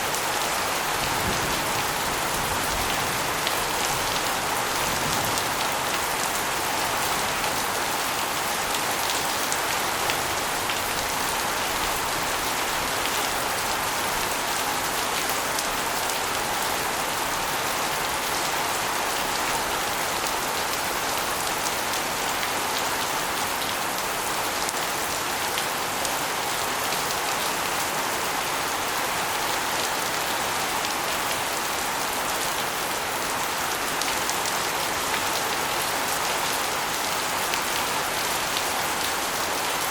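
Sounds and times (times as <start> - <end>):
rain water splashing on concrete: 0.0 - 39.9.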